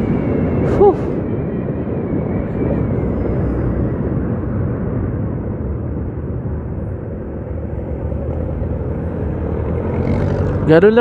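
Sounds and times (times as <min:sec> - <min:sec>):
road noise rumble: 0:00.0 - 0:11.0.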